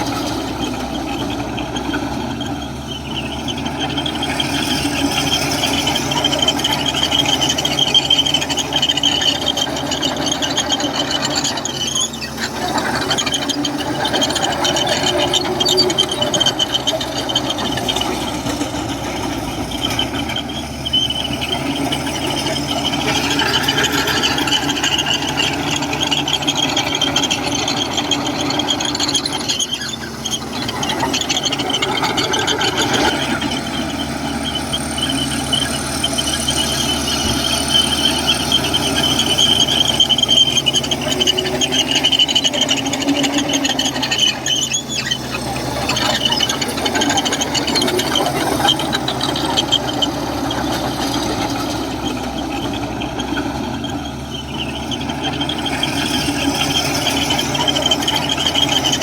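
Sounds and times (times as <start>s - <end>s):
diesel engine running: 0.0s - 59.0s
steel tracks squealing and rattling: 0.0s - 59.0s.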